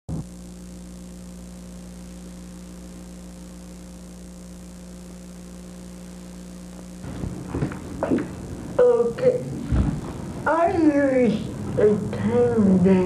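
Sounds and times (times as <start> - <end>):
mains hum: 0.1 - 13.0
tape hiss: 0.1 - 13.0.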